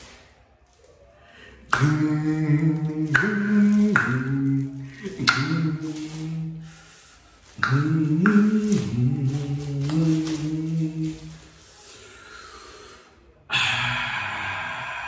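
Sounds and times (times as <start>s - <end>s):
breathy vocal sound: 1.2s - 15.0s.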